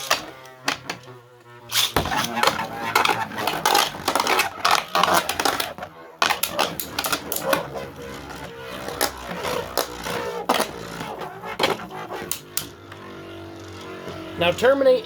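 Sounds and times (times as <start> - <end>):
spinning whir: 0.0 - 15.0.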